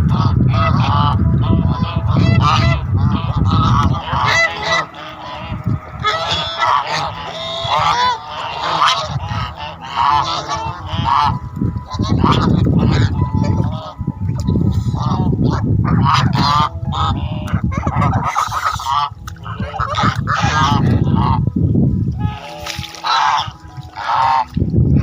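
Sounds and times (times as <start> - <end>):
geese honking: 0.0 - 21.5, 22.1 - 25.0
low rumbling noise: 0.0 - 22.4.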